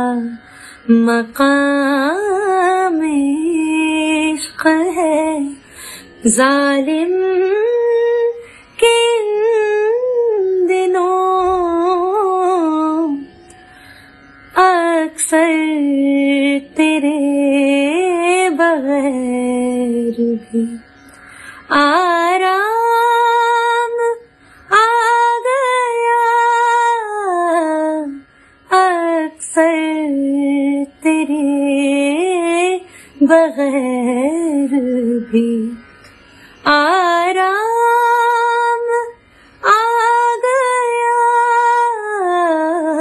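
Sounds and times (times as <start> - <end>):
woman singing unaccompanied: 0.0 - 13.4, 14.5 - 20.9, 21.6 - 43.0.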